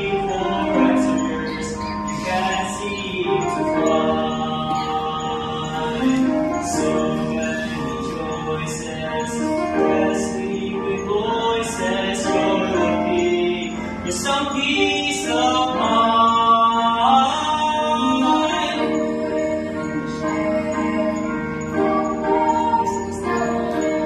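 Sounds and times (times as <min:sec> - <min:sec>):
boys singing in harmony: 0:00.0 - 0:24.0.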